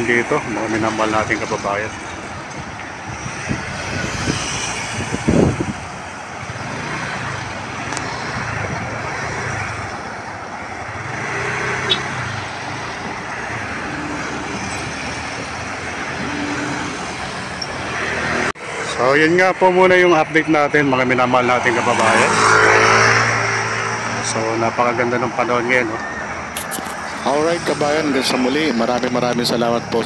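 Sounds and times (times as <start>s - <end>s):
passing motor vehicles: 0.0s - 30.0s.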